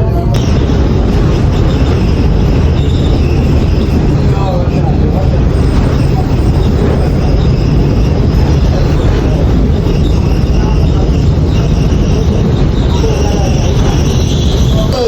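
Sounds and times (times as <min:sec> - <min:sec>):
high wheel squeals: 0:00.0 - 0:15.0
train rumbling on rails: 0:00.0 - 0:15.0.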